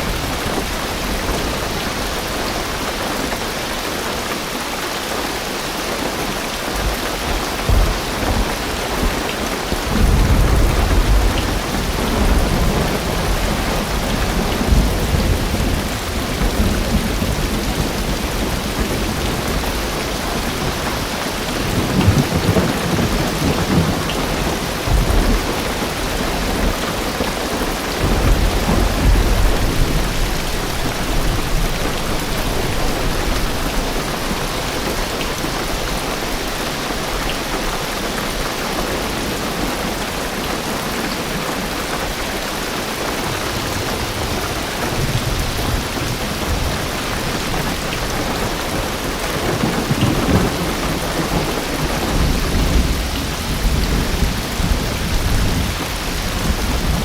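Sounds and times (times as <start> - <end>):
heavy rain on car roof: 0.0 - 57.0
thunder rumbling: 6.1 - 37.7, 42.9 - 57.0.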